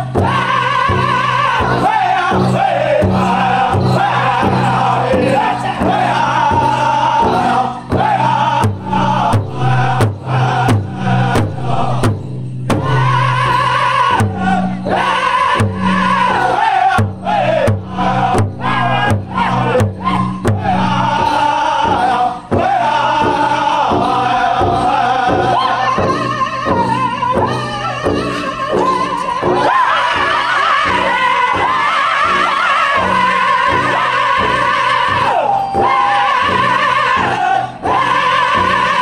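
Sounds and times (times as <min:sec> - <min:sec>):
large drum beating: 0:00.0 - 0:39.0
men singing in unison: 0:00.0 - 0:39.0.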